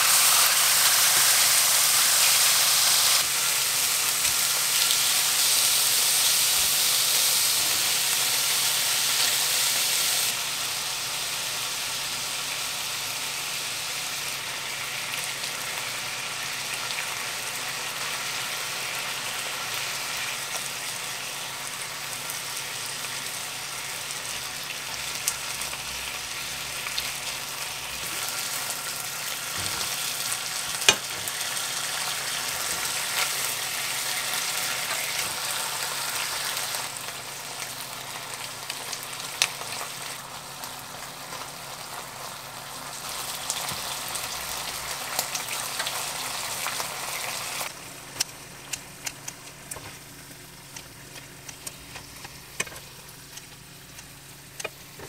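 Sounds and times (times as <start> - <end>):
fish sizzling in a frying pan: 0.0 - 55.0.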